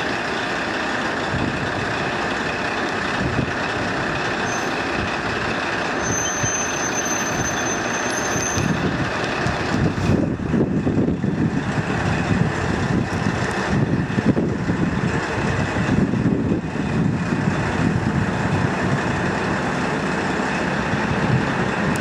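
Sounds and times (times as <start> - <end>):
diesel railcar idling: 0.0 - 22.0.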